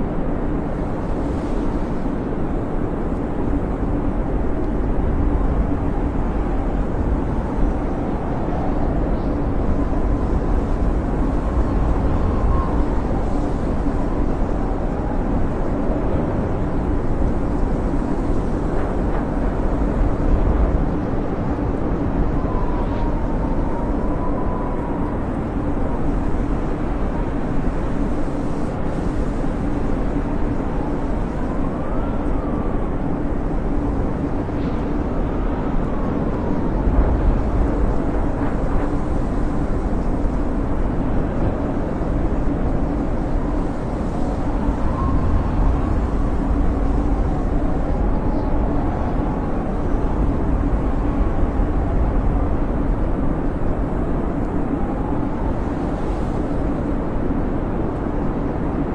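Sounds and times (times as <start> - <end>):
snowstorm wind rumbling: 0.0 - 58.9
wind whistling: 0.0 - 58.9.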